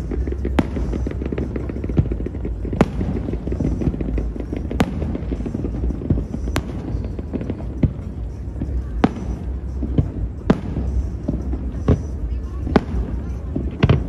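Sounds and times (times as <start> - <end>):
fireworks bangs: 0.0 - 14.0
fireworks crackling: 0.0 - 14.0
low rumble: 0.0 - 14.0.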